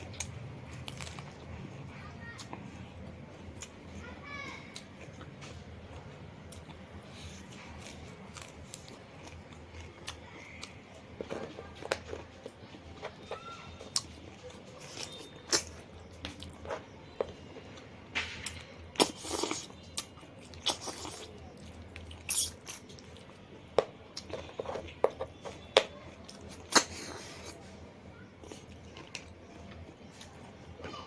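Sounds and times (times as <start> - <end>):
chewing and crunching food: 0.0 - 31.0.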